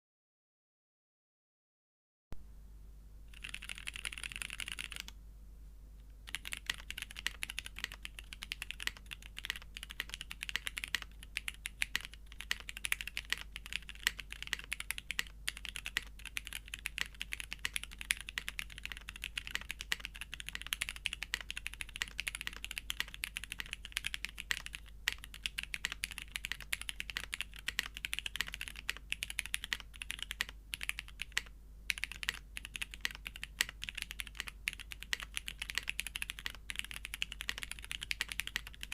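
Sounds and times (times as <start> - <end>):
mechanical keyboard typing: 3.3 - 5.1, 6.3 - 38.9.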